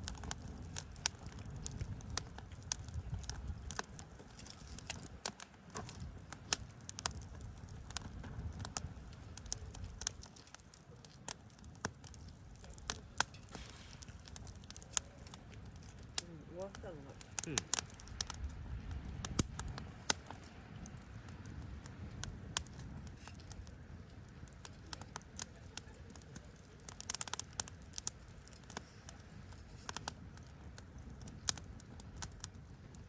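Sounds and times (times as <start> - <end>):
wind rumble on microphone: 0.0 - 27.0, 27.6 - 33.0
campfire crackling and popping: 0.0 - 33.0.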